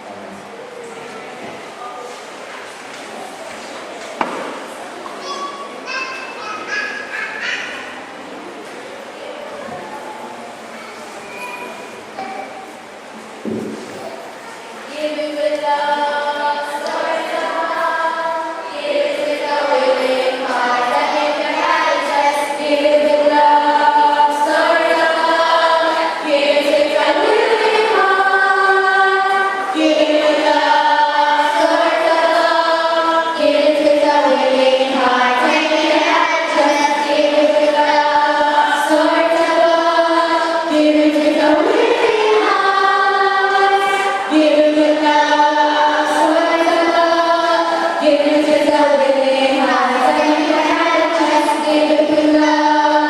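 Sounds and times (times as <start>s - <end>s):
choir singing a hymn: 9.6s - 53.0s.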